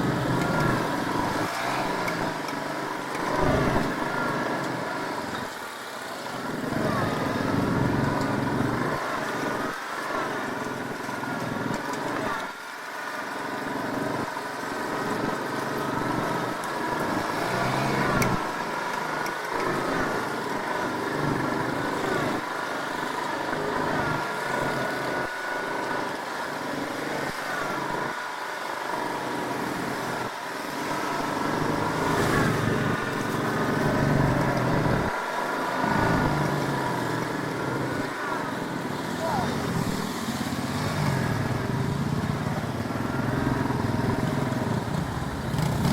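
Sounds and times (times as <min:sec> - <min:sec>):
small vehicle engine revving: 0:00.0 - 0:45.9.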